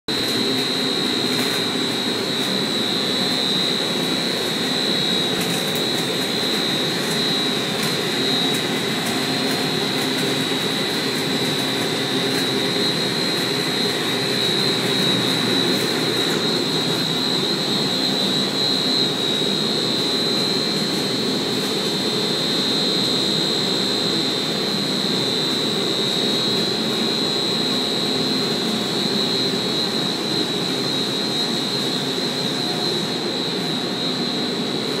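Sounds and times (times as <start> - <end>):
high-pitched machine whine: 0.1 - 35.0
machinery humming: 0.1 - 35.0.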